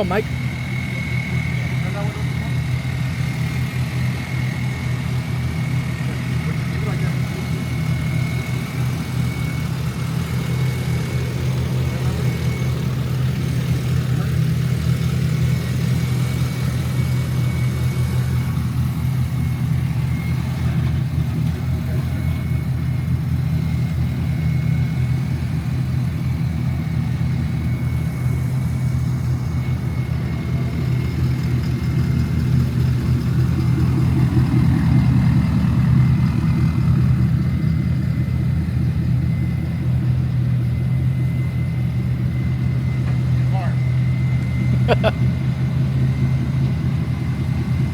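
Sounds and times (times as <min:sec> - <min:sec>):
vehicle engine rumbling: 0:00.0 - 0:47.9.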